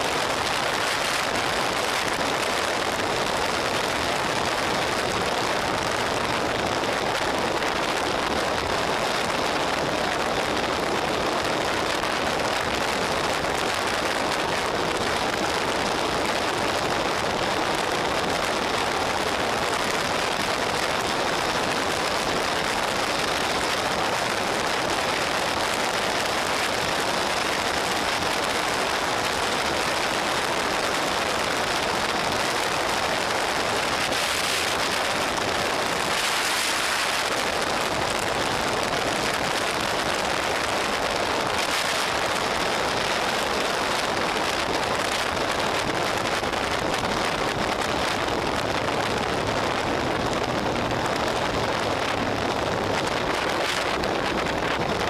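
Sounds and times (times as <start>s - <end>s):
road noise: 0.0s - 55.0s
wind rushing over microphone: 0.0s - 55.0s.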